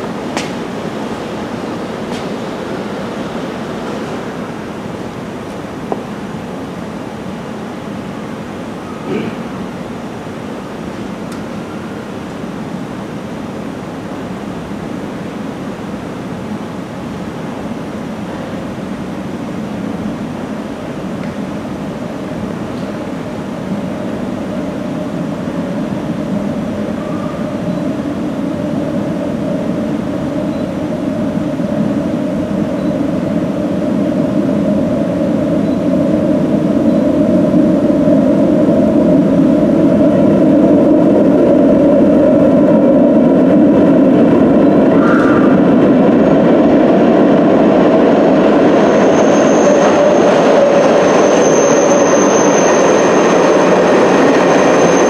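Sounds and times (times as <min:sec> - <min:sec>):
train rumbling in tunnel: 0:00.0 - 0:55.0.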